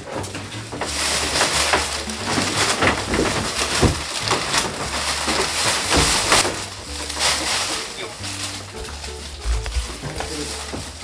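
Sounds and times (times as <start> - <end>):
wooden sliding door rattling: 0.0 - 11.0.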